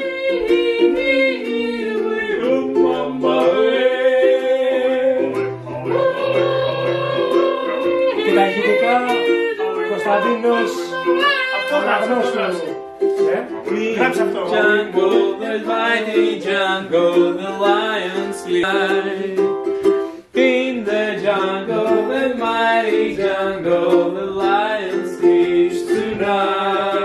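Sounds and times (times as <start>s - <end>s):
person singing: 0.0s - 27.0s
ukulele strummed in chords: 0.0s - 27.0s.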